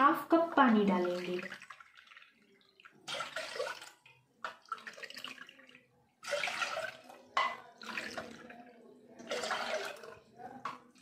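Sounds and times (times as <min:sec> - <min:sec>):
water pouring and splashing: 0:00.3 - 0:11.0.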